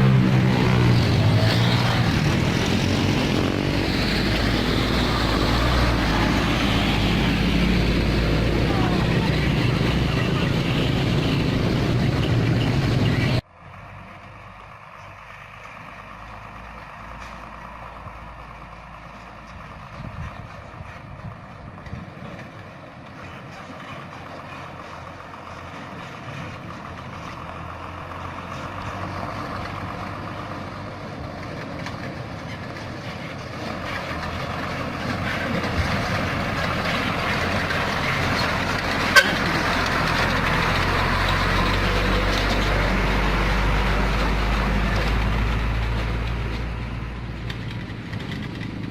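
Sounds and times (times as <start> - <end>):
diesel truck engine under load: 0.0 - 48.9.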